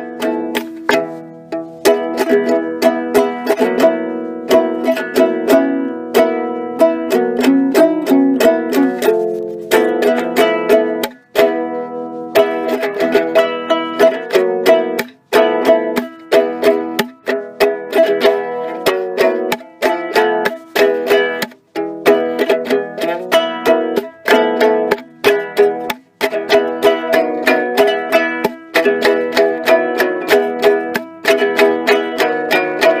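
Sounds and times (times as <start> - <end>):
ukulele plucked chords: 0.0 - 33.0.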